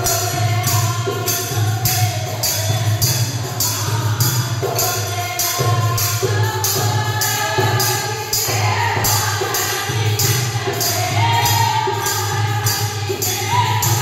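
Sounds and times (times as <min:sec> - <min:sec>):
hand drum beat: 0:00.0 - 0:14.0
sharp percussive strokes: 0:00.0 - 0:14.0
women singing devotional song: 0:00.0 - 0:14.0.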